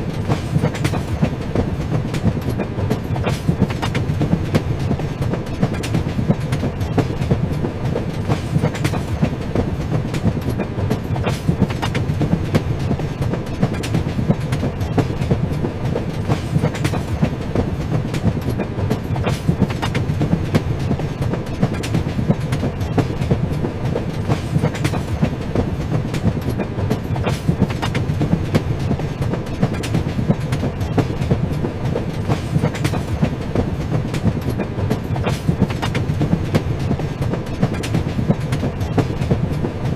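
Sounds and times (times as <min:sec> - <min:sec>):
train rumbling on rails: 0:00.0 - 0:39.9
wheels clicking on track joints: 0:00.0 - 0:39.9.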